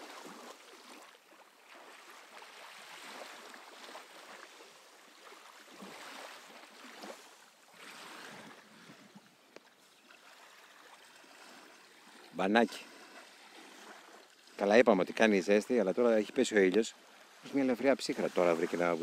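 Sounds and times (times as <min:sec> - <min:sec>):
small waves lapping on beach: 0:00.0 - 0:19.0.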